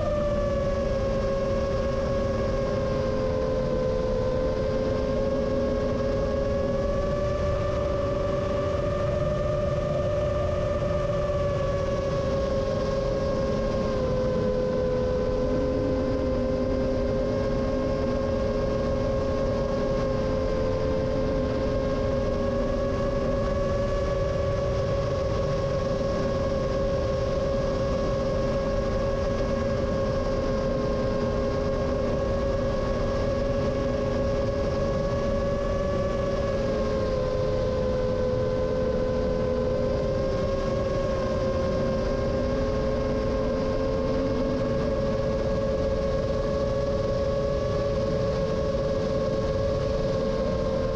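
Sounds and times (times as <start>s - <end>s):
drone motors whining: 0.0s - 50.9s.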